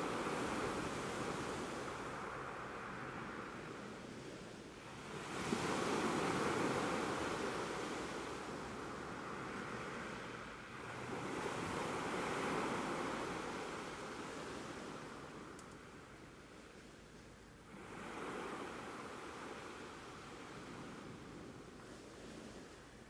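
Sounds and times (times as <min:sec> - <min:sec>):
ocean waves washing ashore: 0:00.0 - 0:16.4, 0:17.6 - 0:23.0.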